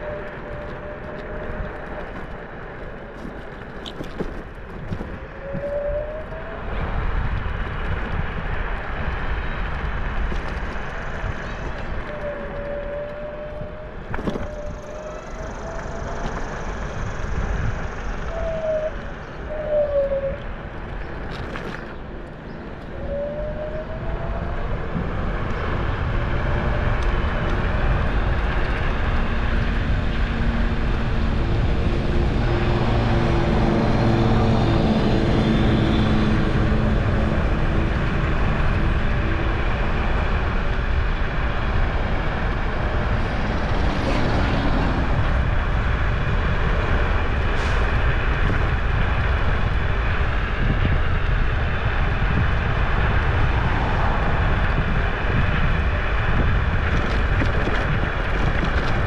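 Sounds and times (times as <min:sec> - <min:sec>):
low hum of steady tones: 0:00.0 - 0:59.0
low vehicle rumble: 0:00.0 - 0:59.0.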